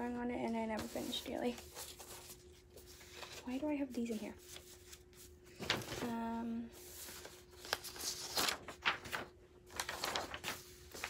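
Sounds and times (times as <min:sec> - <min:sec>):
plastic and paper rustling: 0:00.4 - 0:11.0.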